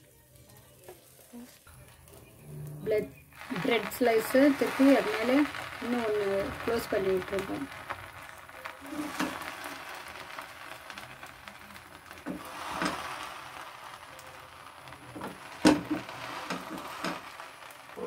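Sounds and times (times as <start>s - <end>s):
bread sizzling on a griddle: 0.0s - 18.0s.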